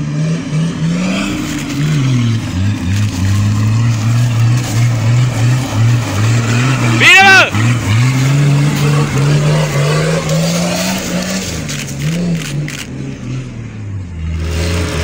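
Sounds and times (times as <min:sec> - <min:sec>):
off-road vehicle engine revving: 0:00.0 - 0:15.0
second vehicle engine: 0:00.0 - 0:15.0.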